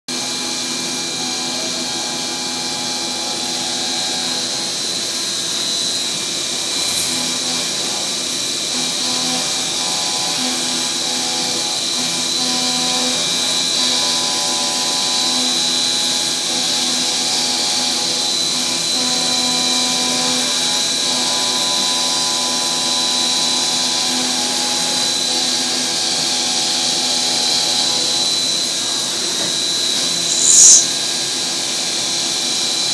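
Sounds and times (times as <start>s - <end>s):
milling machine cutting metal: 0.2s - 29.0s, 29.6s - 32.9s.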